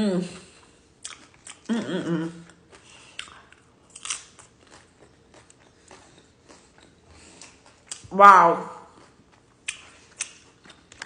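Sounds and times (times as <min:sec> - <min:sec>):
crunchy chips chewing: 0:00.6 - 0:01.8, 0:02.4 - 0:08.1, 0:08.8 - 0:11.0.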